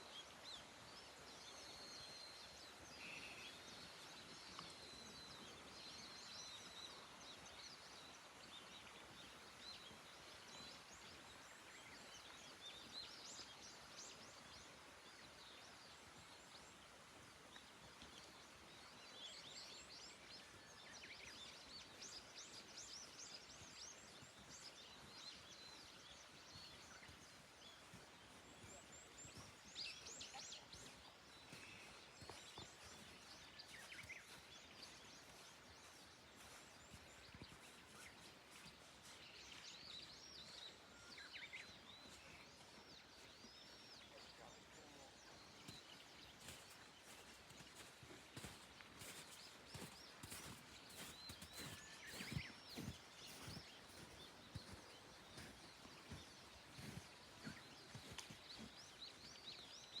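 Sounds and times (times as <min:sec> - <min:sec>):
low steady hiss: 0:00.0 - 0:49.7
songbirds chirping: 0:00.0 - 1:00.0.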